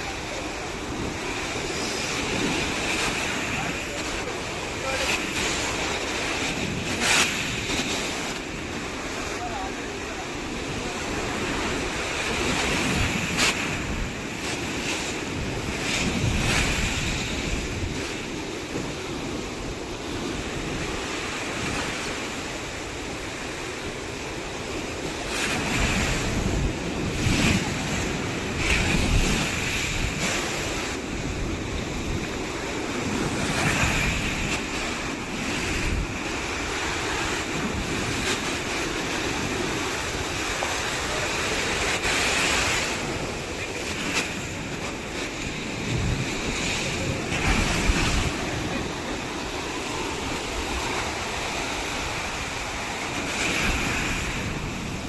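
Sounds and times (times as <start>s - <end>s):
ocean surf on sandy beach: 0.0s - 55.0s
wind on microphone: 0.0s - 55.0s.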